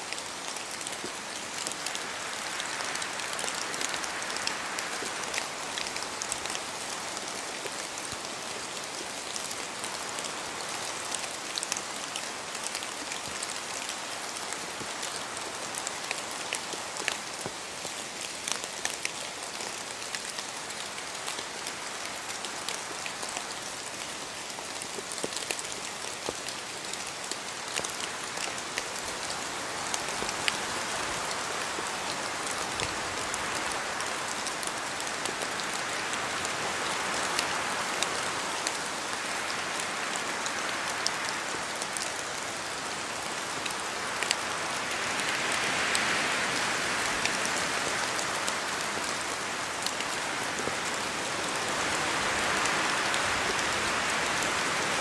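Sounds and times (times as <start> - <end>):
rain on foliage: 0.0 - 55.0.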